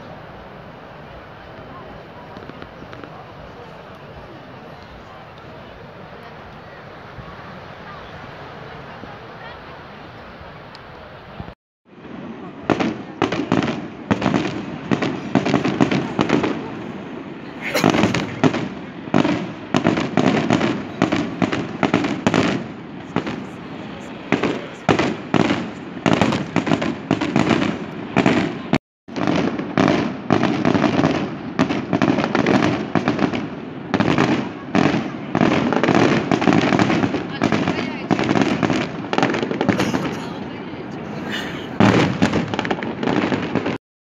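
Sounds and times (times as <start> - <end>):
fireworks bangs and crackles: 0.0 - 10.6, 11.2 - 43.8.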